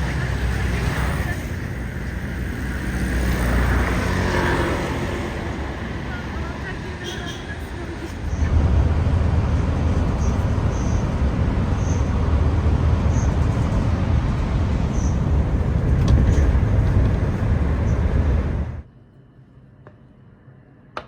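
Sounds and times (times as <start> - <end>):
vehicle rumble: 0.0 - 18.9.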